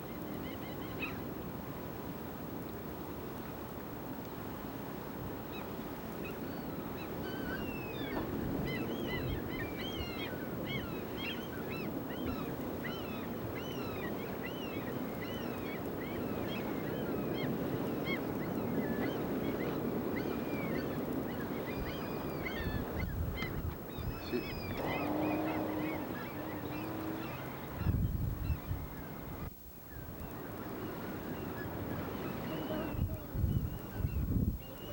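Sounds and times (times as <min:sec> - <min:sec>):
flock of birds chirping: 0:05.6 - 0:34.9.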